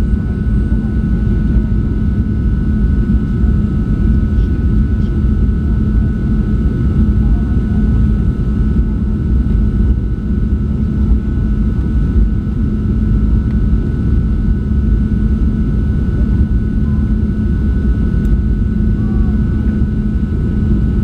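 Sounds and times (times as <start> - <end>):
faint steady whine: 0.0 - 21.0
jet engine cabin drone: 0.0 - 21.0.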